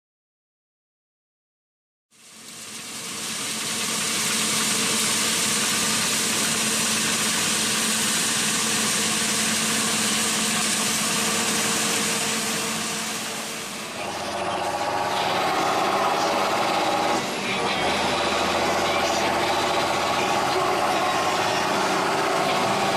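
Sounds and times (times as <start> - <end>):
combine harvester machinery hiss: 2.2 - 22.9
tractor engine from cab: 2.5 - 22.9.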